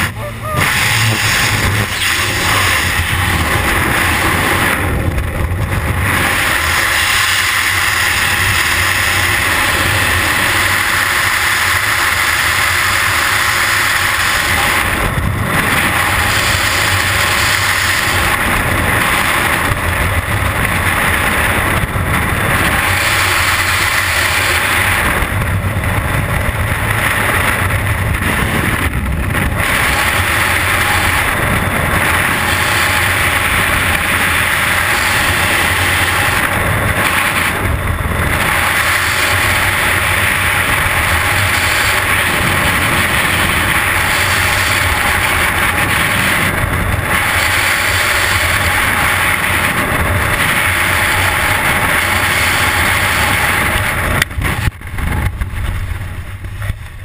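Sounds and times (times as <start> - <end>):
wind blasting over microphone: 0.0 - 57.0.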